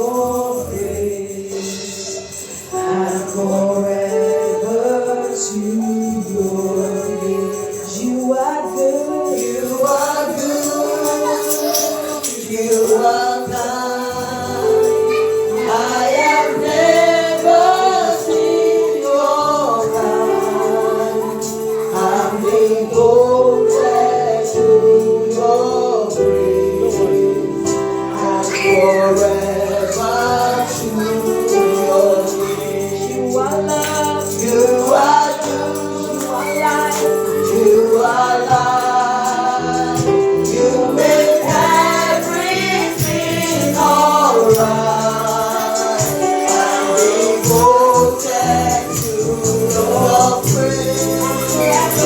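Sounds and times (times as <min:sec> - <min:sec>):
congregation singing: 0:00.0 - 0:52.0
tambourine shaking: 0:00.0 - 0:52.0.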